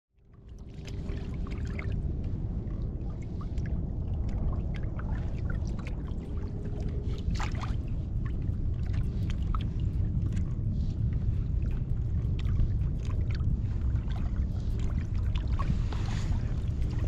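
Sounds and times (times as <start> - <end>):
steady low rumble: 0.2 - 17.0
water lapping against hull: 0.2 - 17.0.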